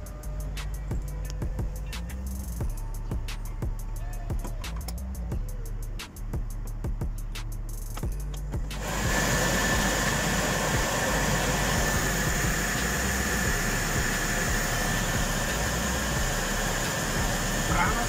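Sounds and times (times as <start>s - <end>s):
heater blower fan running: 0.0s - 6.1s, 8.1s - 18.0s.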